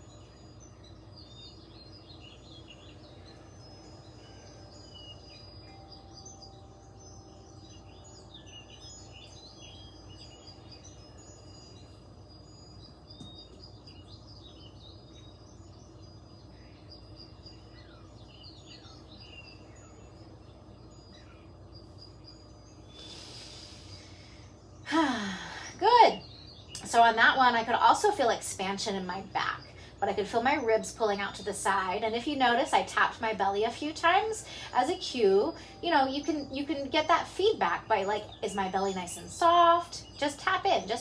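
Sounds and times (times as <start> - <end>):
faint birds chirping: 0.0 - 41.0
steady low hum: 0.0 - 41.0.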